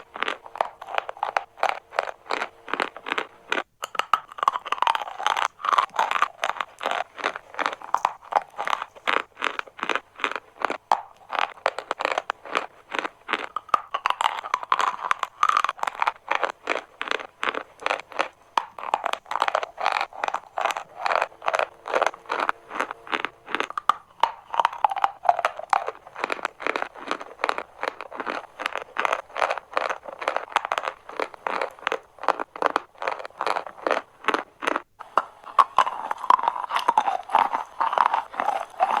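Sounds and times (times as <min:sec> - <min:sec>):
chalk crunching: 0:00.0 - 0:39.0.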